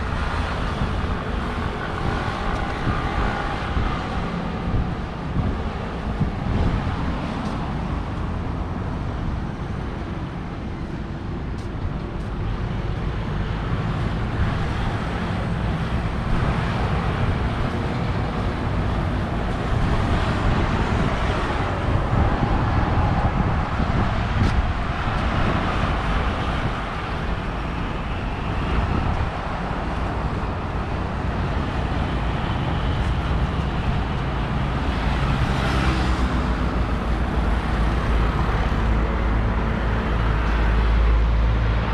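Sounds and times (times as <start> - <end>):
city road traffic: 0.0 - 41.9.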